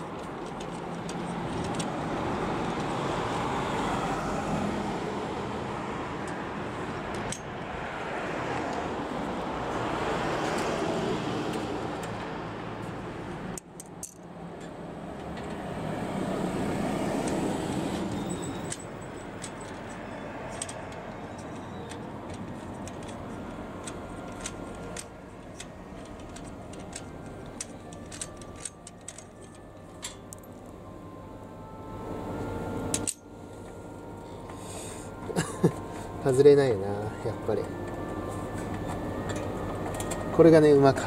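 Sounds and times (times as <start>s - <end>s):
passing traffic rumble: 0.0s - 41.0s.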